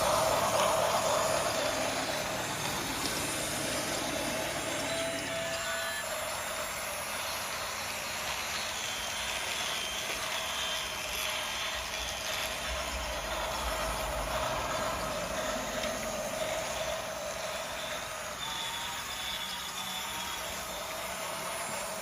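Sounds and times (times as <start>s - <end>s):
toy train motor whirring: 0.0s - 22.0s.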